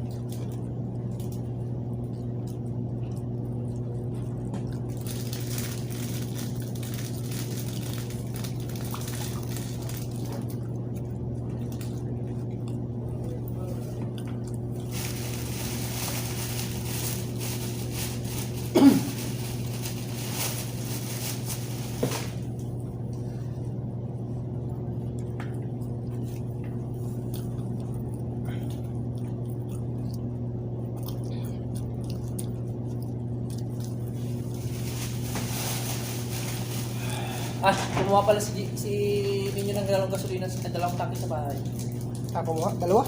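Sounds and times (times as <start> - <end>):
chewing hard bread: 0.0 - 43.0
steady low hum: 0.0 - 43.0.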